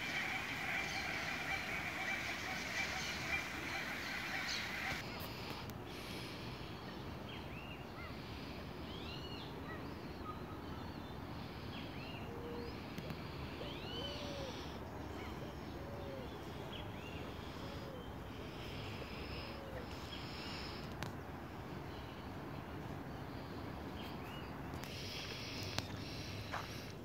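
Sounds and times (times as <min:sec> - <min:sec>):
birds calling: 0:00.0 - 0:27.0
steady low background noise: 0:00.0 - 0:27.0.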